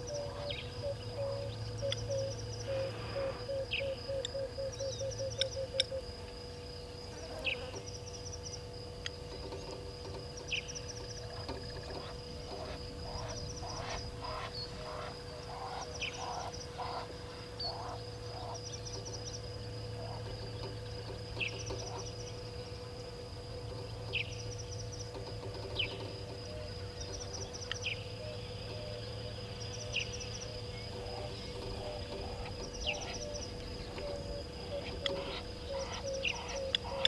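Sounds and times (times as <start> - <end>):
birds calling: 0.0 - 37.0
high insect trill: 0.0 - 37.0.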